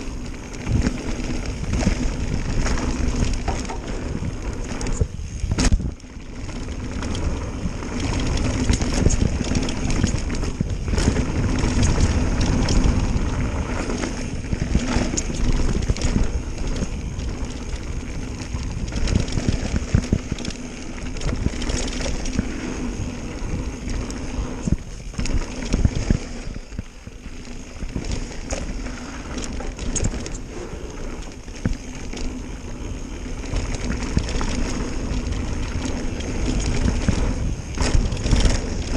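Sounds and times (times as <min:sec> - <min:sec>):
bike knocking and rattling: 0:00.0 - 0:38.9
bike tyres rolling over dirt: 0:00.0 - 0:38.9.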